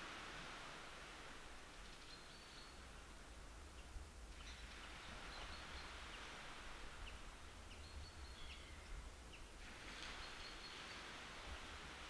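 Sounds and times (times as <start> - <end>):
waves washing onto beach: 0.0 - 8.2, 9.1 - 12.0.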